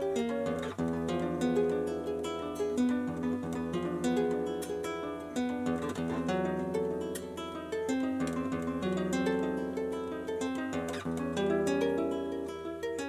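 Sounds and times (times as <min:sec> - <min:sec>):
acoustic guitar plucked arpeggio: 0:00.0 - 0:13.0.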